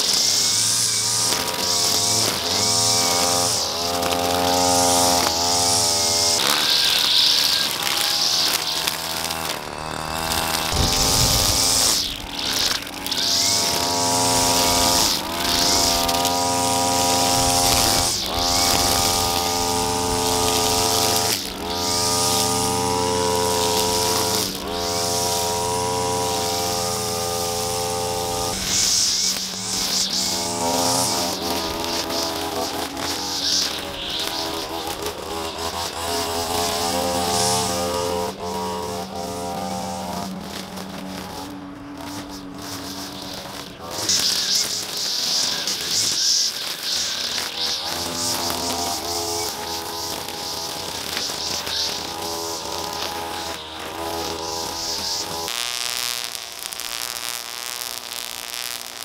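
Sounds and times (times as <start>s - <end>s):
string trimmer engine running: 0.0s - 59.0s
whir of line cutting grass: 0.0s - 59.0s.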